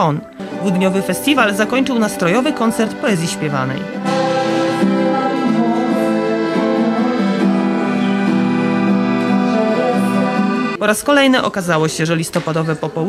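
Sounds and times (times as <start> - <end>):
live music chords: 0.0 - 10.8.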